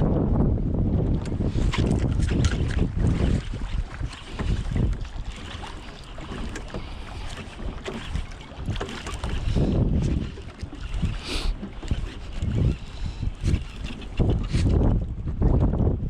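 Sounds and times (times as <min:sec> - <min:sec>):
wind gusting across microphone: 0:00.0 - 0:16.0.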